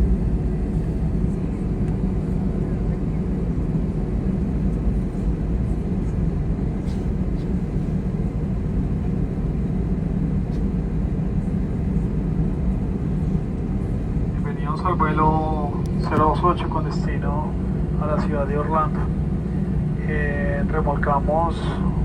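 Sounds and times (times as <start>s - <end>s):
jet engines low rumble in cabin: 0.0s - 22.0s.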